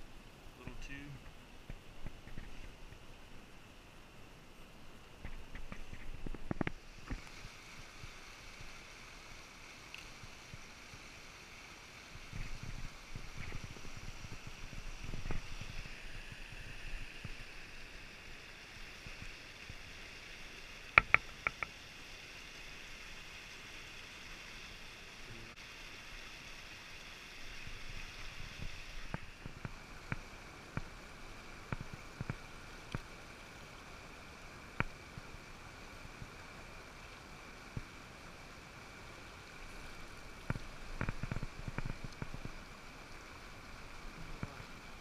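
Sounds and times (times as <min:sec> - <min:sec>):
water rushing over rocks: 0:05.1 - 0:45.0.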